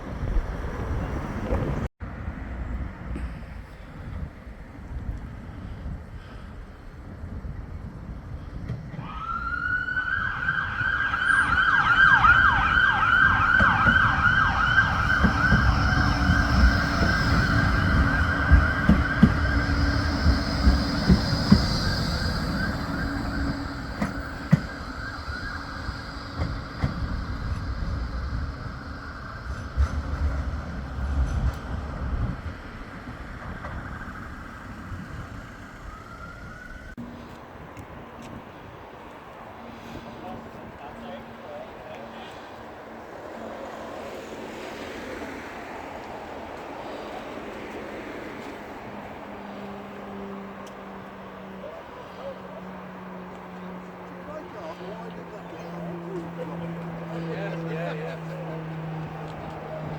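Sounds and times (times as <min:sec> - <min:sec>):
tram electric whine: 0:00.0 - 0:59.9
wheels rumbling and clicking on rails: 0:00.0 - 0:59.9.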